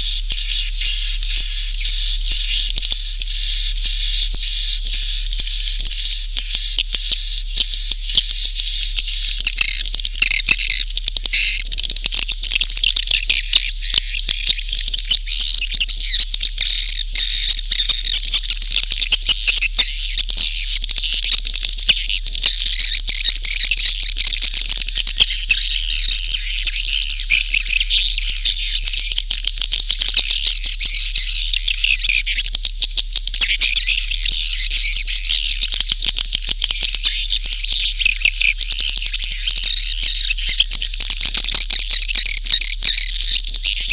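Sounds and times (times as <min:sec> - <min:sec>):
steady low hum: 0:00.0 - 0:43.9
twittering chatter of many birds: 0:00.0 - 0:43.9.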